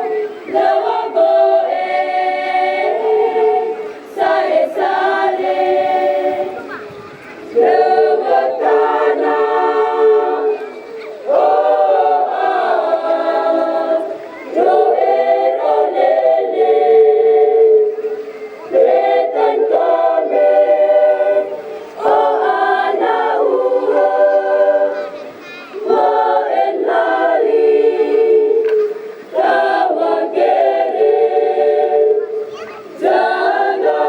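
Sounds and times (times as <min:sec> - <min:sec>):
choir singing unaccompanied: 0:00.0 - 0:34.0.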